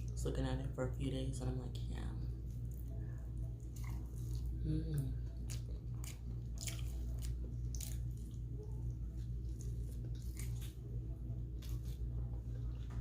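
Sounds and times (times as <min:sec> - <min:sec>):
steady low hum: 0:00.0 - 0:13.0
chewing soft food: 0:02.3 - 0:13.0.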